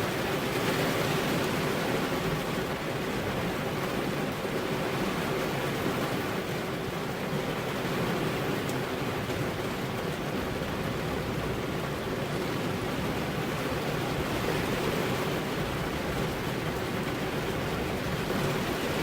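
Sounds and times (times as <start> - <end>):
rain on car windows: 0.0 - 19.0.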